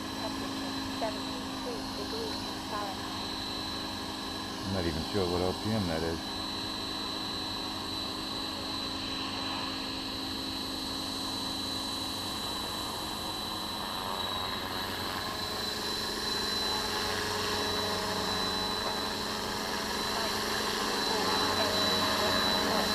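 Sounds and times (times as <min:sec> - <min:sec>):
rc helicopter rotor drone: 0:00.0 - 0:22.9
thin high whine: 0:00.0 - 0:22.9.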